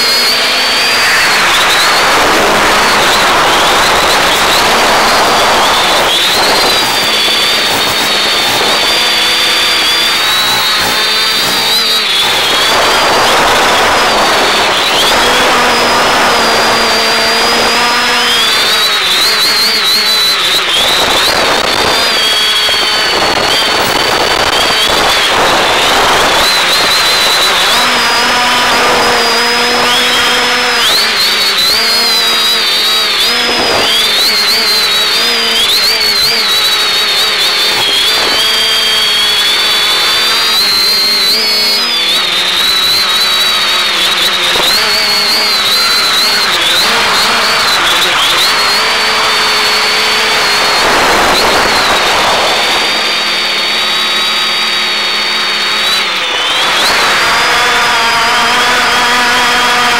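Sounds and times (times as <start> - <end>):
quadcopter motors whining: 0.0 - 59.9.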